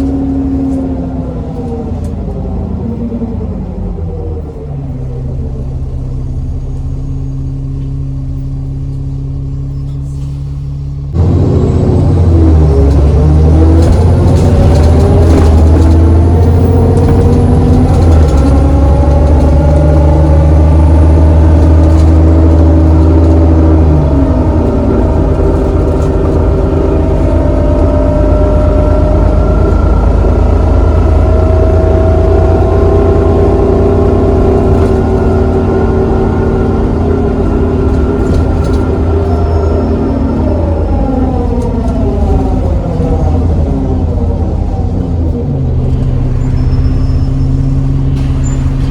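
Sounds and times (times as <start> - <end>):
bus engine: 0.0 - 48.9.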